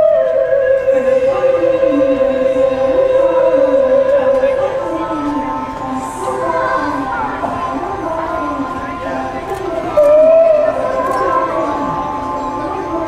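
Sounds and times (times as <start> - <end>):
choir-like voices singing: 0.0 - 13.0.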